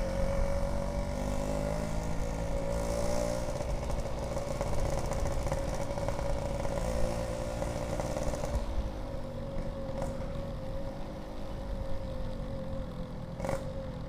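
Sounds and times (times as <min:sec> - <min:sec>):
two-stroke motorcycle engine running: 0:00.0 - 0:14.0.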